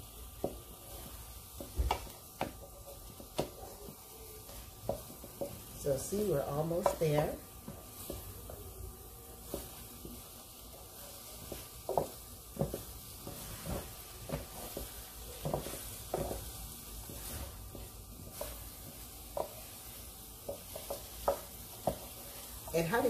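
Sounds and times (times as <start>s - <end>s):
eggs sizzling faintly: 0.0s - 23.0s
wooden spoon scraping a skillet: 0.0s - 23.0s.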